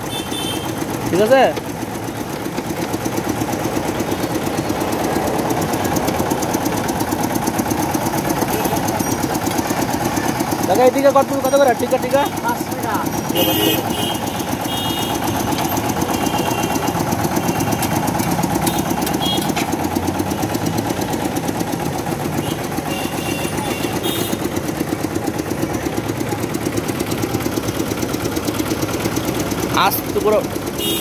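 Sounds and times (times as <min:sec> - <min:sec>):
small engine idling: 0:00.0 - 0:31.0.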